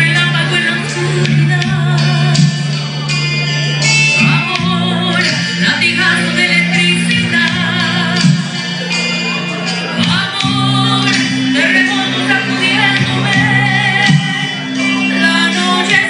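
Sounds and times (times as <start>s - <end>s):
person singing a ballad: 0.0s - 16.0s
recorded backing track: 0.0s - 16.0s.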